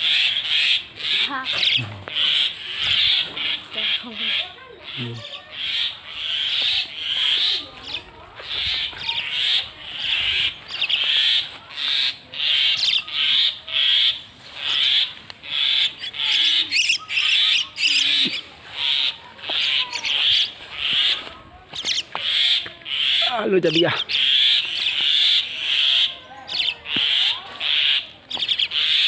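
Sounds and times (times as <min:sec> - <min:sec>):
myna giving harsh rasping calls: 0:00.0 - 0:29.0.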